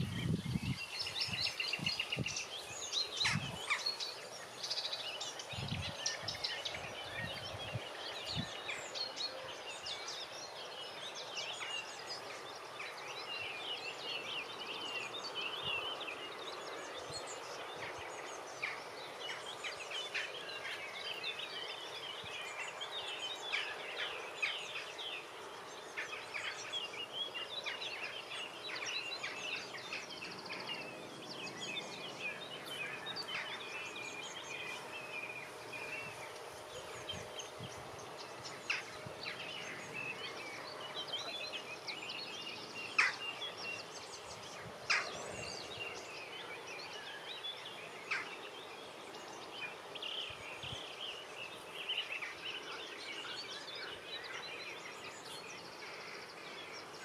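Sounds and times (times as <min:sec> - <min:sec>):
outdoor background hiss: 0:00.0 - 0:57.0
songbirds chirping and trilling: 0:00.0 - 0:57.0.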